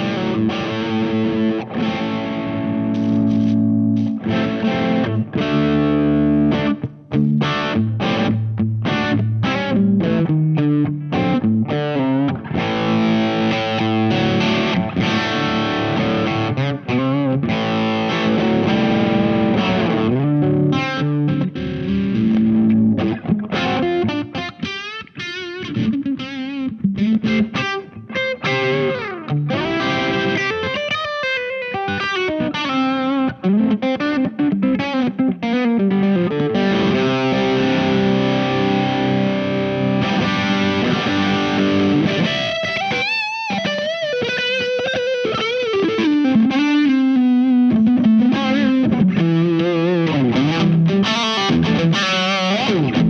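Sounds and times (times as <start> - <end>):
distorted electric guitar riffs: 0.0 - 53.0.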